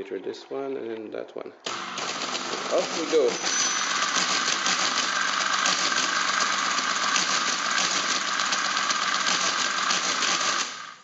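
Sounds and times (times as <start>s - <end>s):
mechanical calculator clattering: 1.7s - 11.0s.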